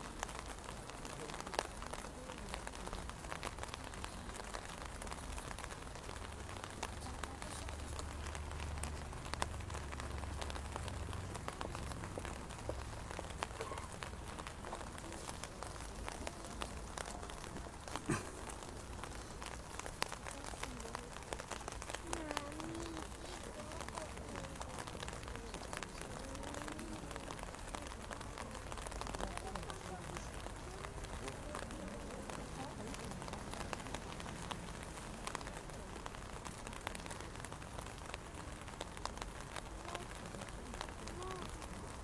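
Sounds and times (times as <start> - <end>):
faint murmured voices: 0.0 - 42.0
rain on umbrellas and pavement: 0.0 - 42.0.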